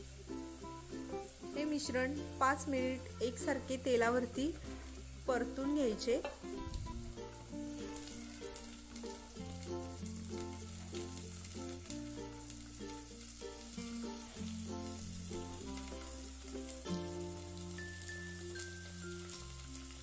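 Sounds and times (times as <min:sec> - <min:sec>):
beans sizzling in hot oil: 0:00.0 - 0:20.0
instrumental background music: 0:00.0 - 0:20.0.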